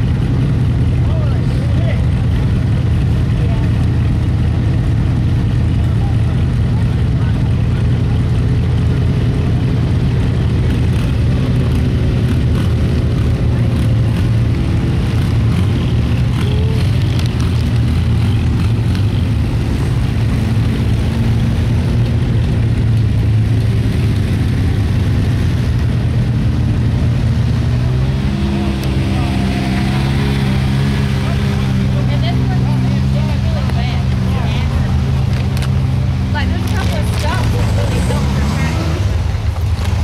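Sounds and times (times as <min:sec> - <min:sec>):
truck engine running at low revs: 0:00.0 - 0:40.0.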